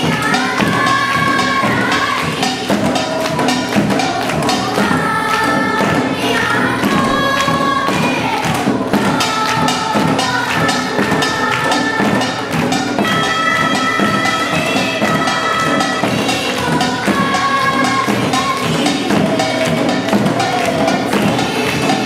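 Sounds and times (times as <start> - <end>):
children singing in unison: 0.0 - 22.0
drums beaten in steady rhythm: 0.0 - 22.0.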